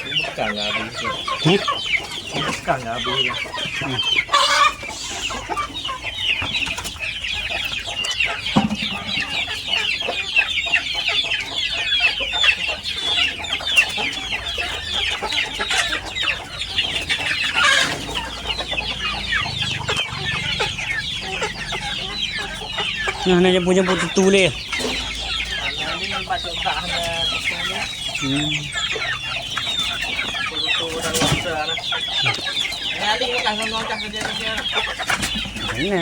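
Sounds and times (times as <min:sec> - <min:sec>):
chickens calling: 0:00.0 - 0:36.0.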